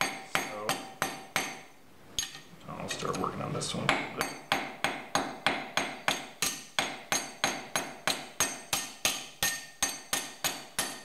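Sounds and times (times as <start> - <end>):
hammer striking metal rivet: 0.0 - 2.4, 3.9 - 11.0.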